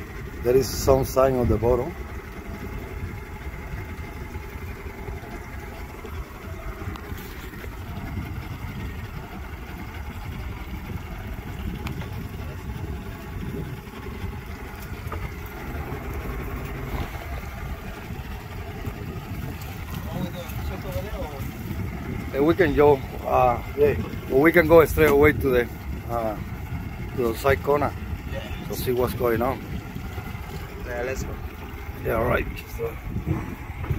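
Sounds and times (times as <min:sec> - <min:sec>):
outboard motor idling: 0:00.0 - 0:33.9.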